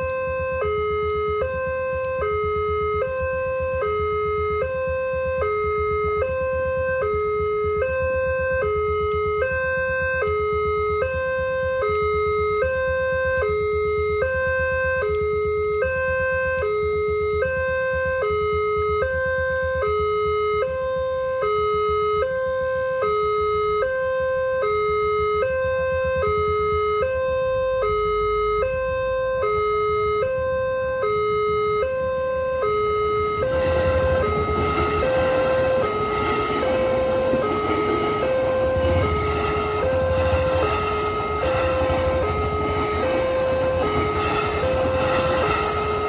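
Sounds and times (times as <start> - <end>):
level crossing two-tone alarm: 0.0 - 46.0.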